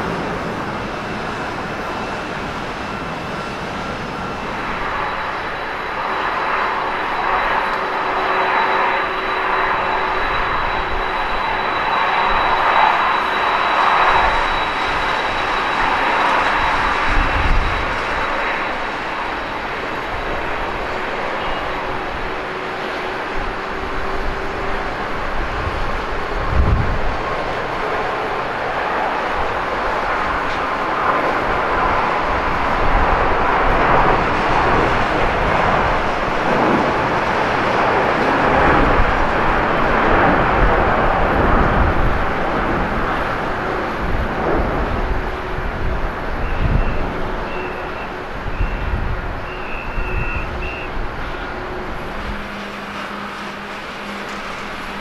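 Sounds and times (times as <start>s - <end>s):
jet engines roaring at takeoff: 0.0s - 55.0s.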